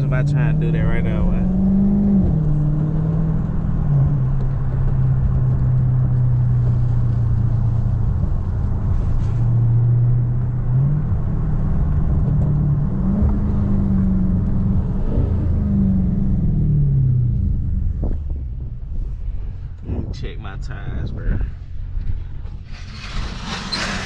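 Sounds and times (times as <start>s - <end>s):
car engine running at low revs: 0.0s - 24.0s.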